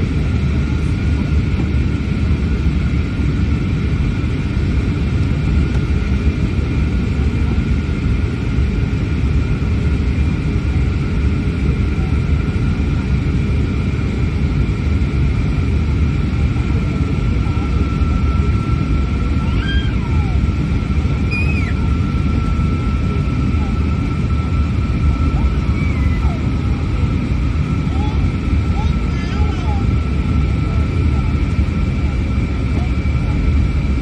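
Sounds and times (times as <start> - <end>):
airplane cabin rumble: 0.0 - 34.0
engine whine: 0.0 - 34.0.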